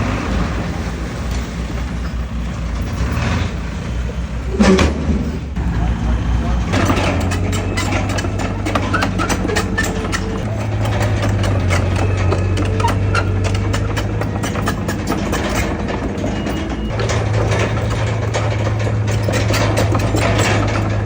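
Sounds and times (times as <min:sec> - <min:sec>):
heavy diesel engine running: 0:00.0 - 0:21.0
sharp clicks and clanks: 0:01.3 - 0:21.0.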